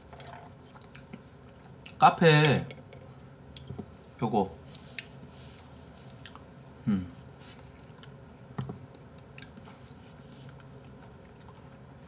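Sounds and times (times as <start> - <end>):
person chewing porridge: 0.0 - 2.0, 3.0 - 6.5, 7.2 - 12.0.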